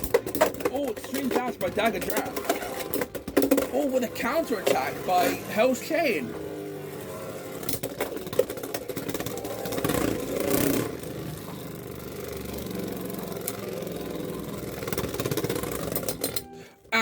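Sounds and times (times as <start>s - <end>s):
spinning tops whirring: 0.0s - 16.4s.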